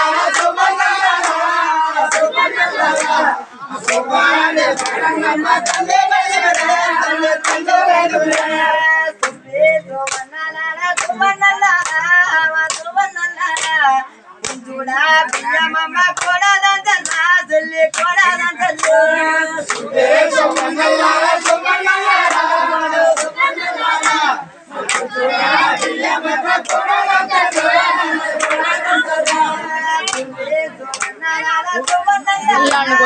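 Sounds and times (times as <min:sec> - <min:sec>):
person singing folk song: 0:00.0 - 0:33.0
rhythmic claps: 0:00.0 - 0:33.0.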